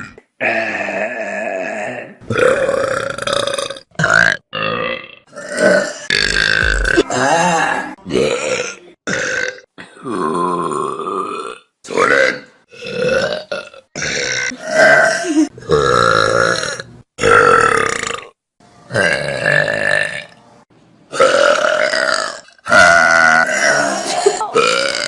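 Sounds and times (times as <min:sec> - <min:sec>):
loud human burps: 0:00.0 - 0:20.4, 0:21.1 - 0:25.0.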